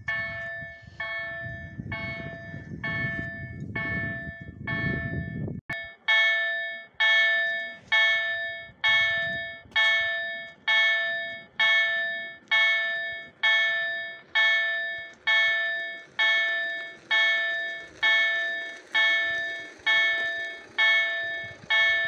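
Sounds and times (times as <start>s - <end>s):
level crossing warning bell ringing: 0.0s - 22.0s.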